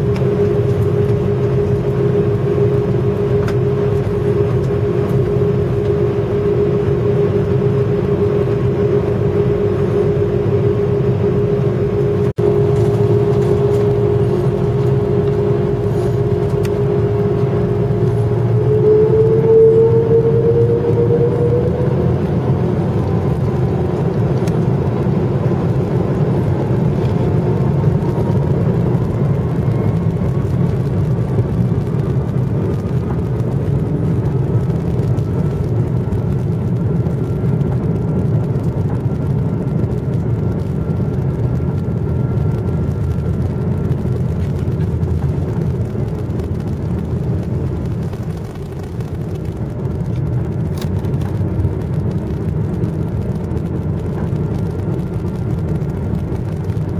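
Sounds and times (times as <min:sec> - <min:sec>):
faint rising engine whine: 0:00.0 - 0:56.9
jet engine rumble in cabin: 0:00.0 - 0:56.9.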